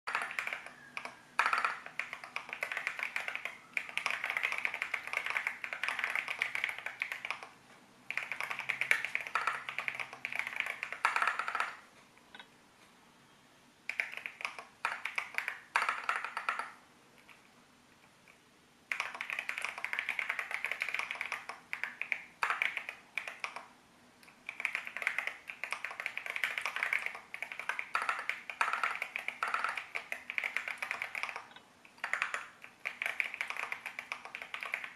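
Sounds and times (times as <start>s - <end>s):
mechanical keyboard typing: 0.1s - 12.5s, 13.9s - 17.5s, 18.2s - 34.9s.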